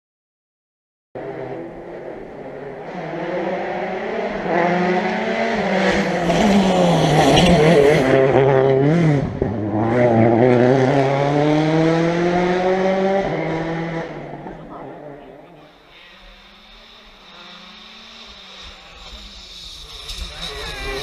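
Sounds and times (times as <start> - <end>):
rally car engine: 1.2 - 21.0.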